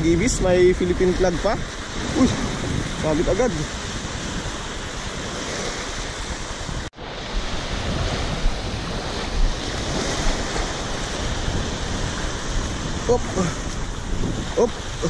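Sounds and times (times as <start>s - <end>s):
wind rumbling on microphone: 0.0s - 15.0s
small waves breaking: 0.8s - 15.0s.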